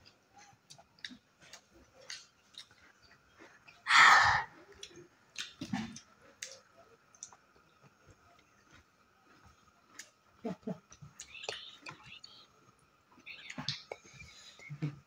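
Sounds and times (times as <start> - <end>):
people chewing and lip smacking: 0.0 - 15.0.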